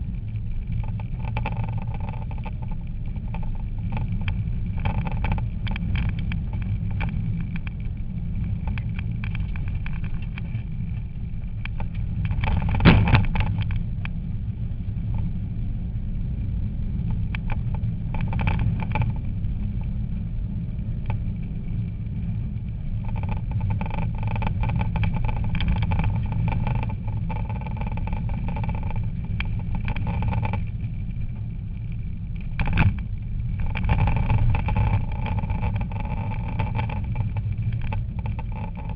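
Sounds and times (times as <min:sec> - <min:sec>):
engine crackling: 0:00.0 - 0:15.6, 0:16.2 - 0:38.9.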